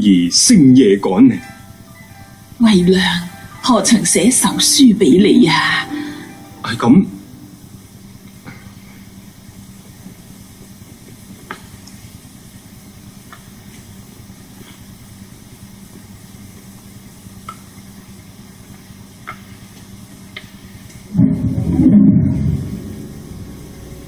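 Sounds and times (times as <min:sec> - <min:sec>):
recording hiss and hum: 0:00.0 - 0:24.0.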